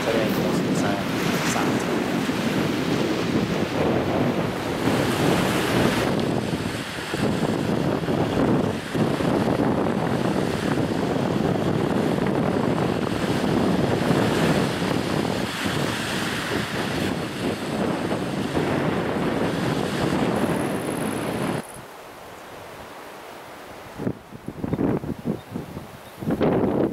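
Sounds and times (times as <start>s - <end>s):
wind over microphone: 0.0s - 21.9s, 22.6s - 26.9s
surf breaking on shore: 0.0s - 26.9s.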